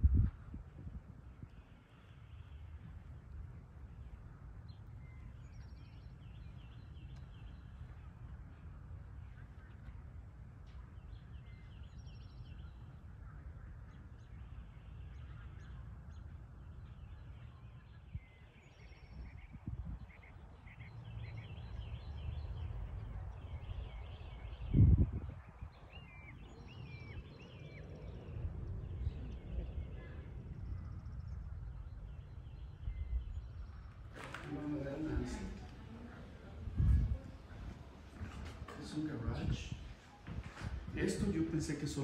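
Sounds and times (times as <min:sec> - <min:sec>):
low rumble on microphone: 0:00.0 - 0:42.0
small birds chirping: 0:00.1 - 0:42.0.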